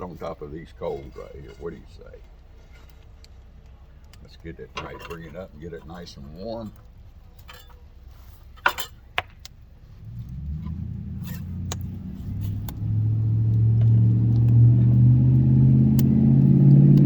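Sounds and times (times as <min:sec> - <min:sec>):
engine rumble and hum: 0:00.0 - 0:17.0.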